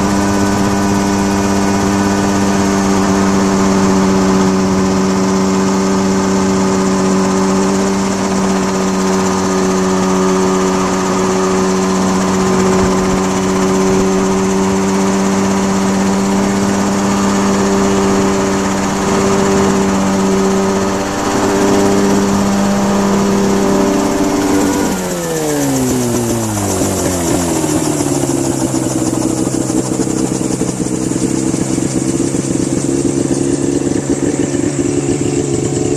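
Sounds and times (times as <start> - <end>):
model aircraft motor running: 0.0 - 35.9.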